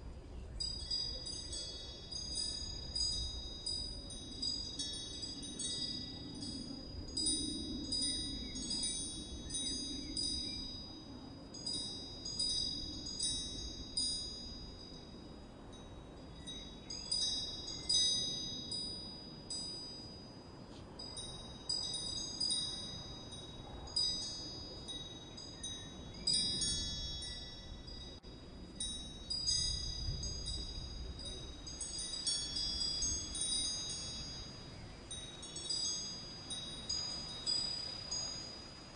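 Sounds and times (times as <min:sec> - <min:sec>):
wind chimes ringing: 0:00.6 - 0:38.9.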